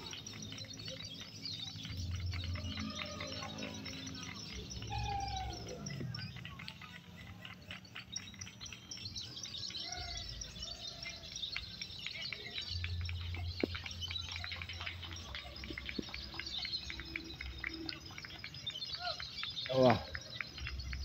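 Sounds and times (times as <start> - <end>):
songbirds chorus of chirps and trills: 0.0 - 21.0.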